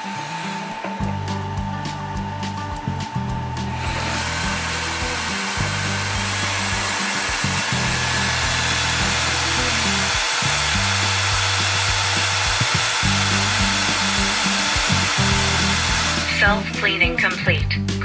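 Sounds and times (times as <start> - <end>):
floor cleaner motor and water rushing: 0.0 - 17.5
background music with steady beat: 0.0 - 18.0.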